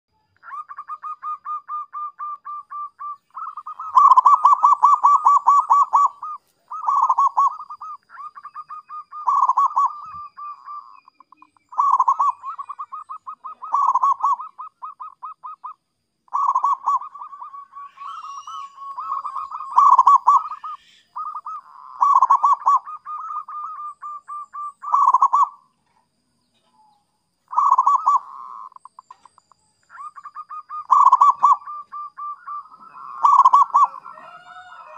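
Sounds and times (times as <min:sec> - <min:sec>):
dove cooing: 0:00.4 - 0:25.6, 0:27.5 - 0:34.9.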